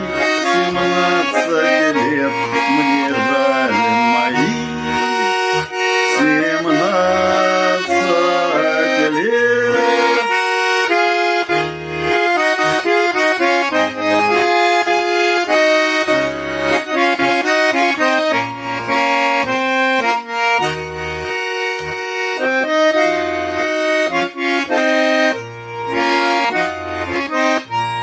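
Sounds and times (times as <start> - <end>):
button accordion folk melody: 0.0 - 28.0.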